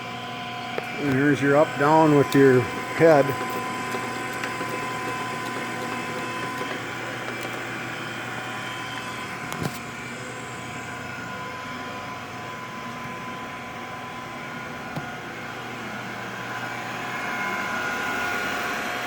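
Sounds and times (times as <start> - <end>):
grinder motor humming with whine: 0.0 - 19.0.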